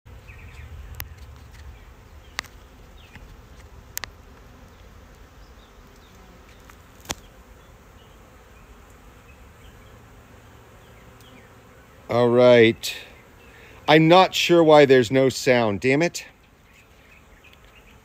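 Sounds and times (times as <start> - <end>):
honeybees buzzing: 0.1 - 18.0.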